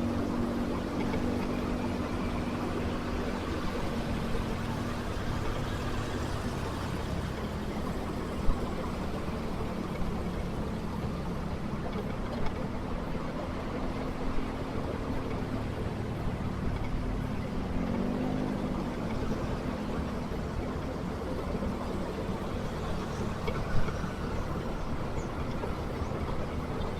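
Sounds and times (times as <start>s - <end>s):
road and traffic noise: 0.0s - 26.9s.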